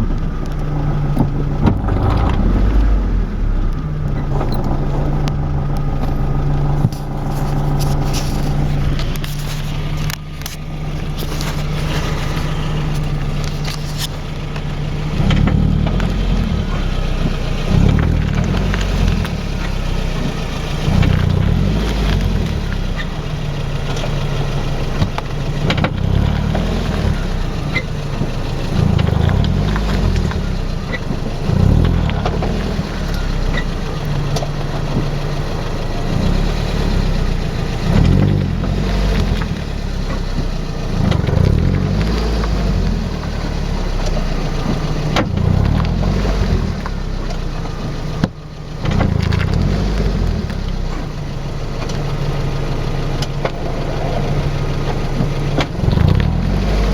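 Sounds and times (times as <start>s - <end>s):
wheel grinding noise: 0.0s - 56.9s.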